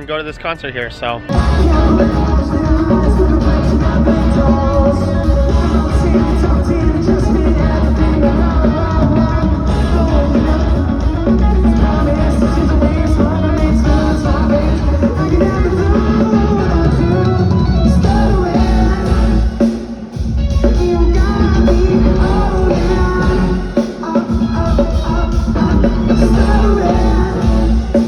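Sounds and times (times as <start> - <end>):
electric guitar: 1.2 - 28.0
drum kit: 1.3 - 28.0
person singing: 1.3 - 28.0.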